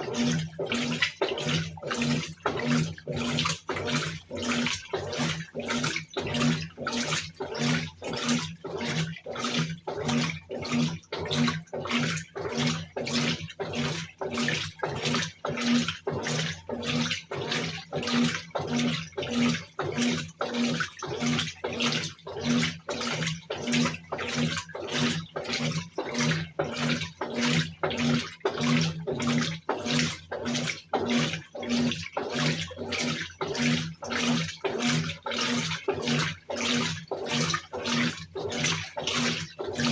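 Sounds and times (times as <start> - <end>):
washing machine motor humming: 0.0 - 39.9
water sloshing in washing machine: 0.0 - 39.9.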